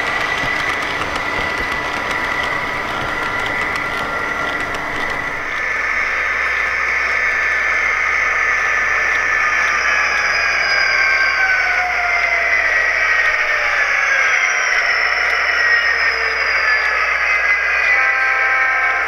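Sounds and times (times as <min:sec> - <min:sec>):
model locomotive diesel sound: 0:00.0 - 0:19.0.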